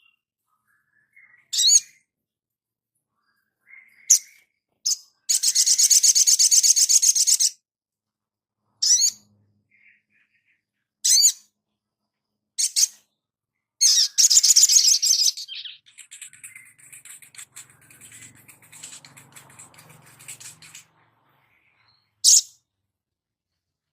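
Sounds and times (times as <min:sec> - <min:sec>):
sunbird chirps and trills: 0:00.0 - 0:02.3, 0:02.9 - 0:07.6, 0:08.6 - 0:22.8.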